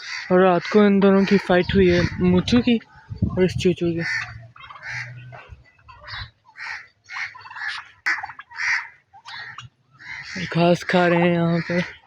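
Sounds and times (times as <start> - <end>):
turkeys calling: 0.0 - 12.0.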